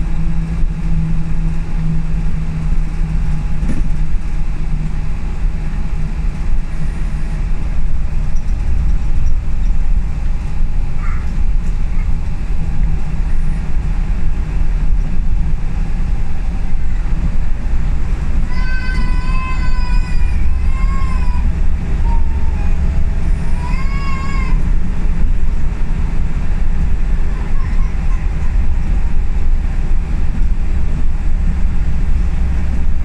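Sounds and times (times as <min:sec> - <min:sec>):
bus diesel engine running: 0:00.0 - 0:33.0
road noise: 0:00.0 - 0:33.0.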